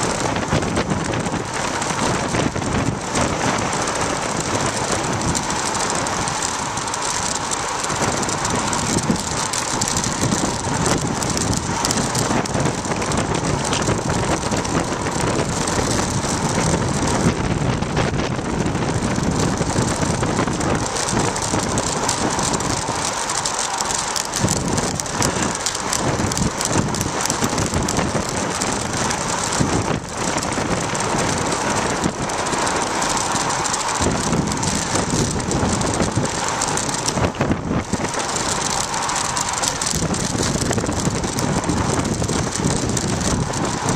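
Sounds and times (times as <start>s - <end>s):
bicycle tyre noise: 0.0s - 43.9s
wind rushing over microphone: 0.0s - 43.9s.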